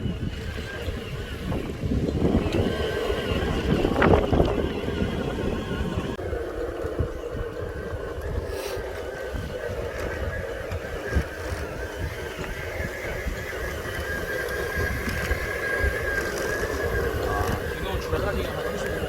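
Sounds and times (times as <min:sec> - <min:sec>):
electric motor whining: 0:00.0 - 0:19.0
low rumble with bumps: 0:00.0 - 0:19.0.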